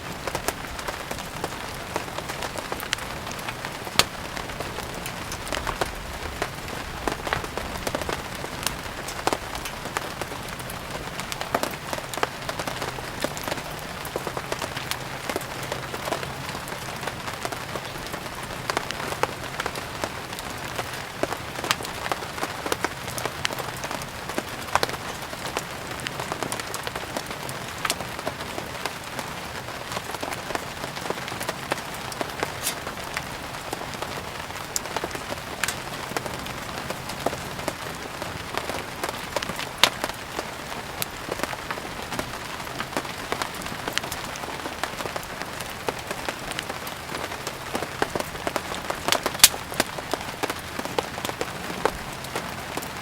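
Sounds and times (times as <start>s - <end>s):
steady rain falling: 0.0s - 53.0s
wood fire crackling: 0.0s - 53.0s.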